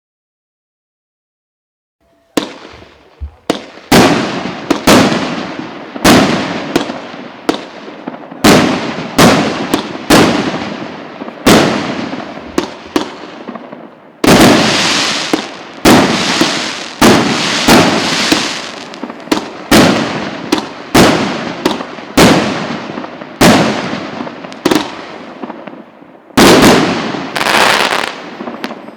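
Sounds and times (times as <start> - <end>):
firework bangs: 2.1 - 28.9
hissing firework bursts: 2.1 - 28.9.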